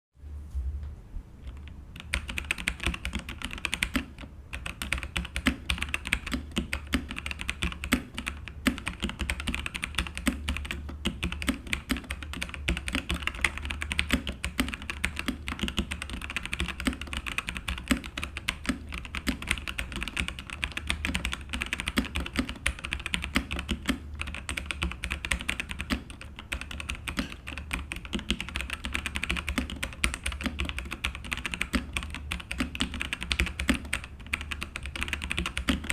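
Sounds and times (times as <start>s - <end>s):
steady low hum: 0.2s - 35.9s
mechanical keyboard typing: 1.5s - 35.9s.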